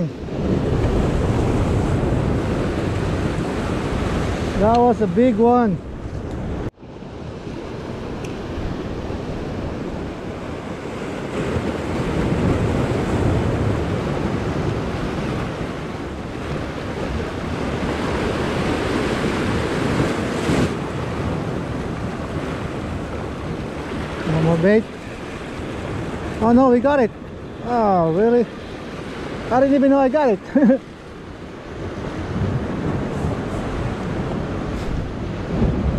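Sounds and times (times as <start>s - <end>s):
surf washing against rocks: 0.0s - 35.9s
wind buffeting microphone: 0.0s - 35.9s.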